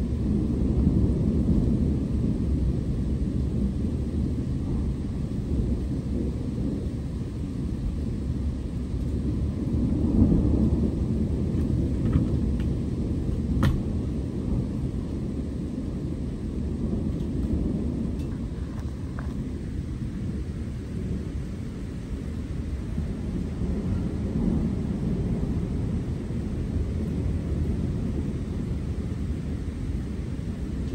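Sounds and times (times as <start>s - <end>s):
distant thunder rumbling: 0.0s - 30.9s.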